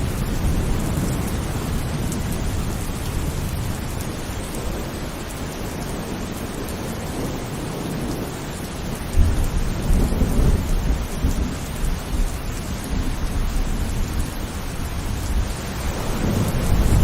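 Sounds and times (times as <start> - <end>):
heavy rain falling: 0.0 - 17.0
low rumble of thunder: 0.0 - 17.0.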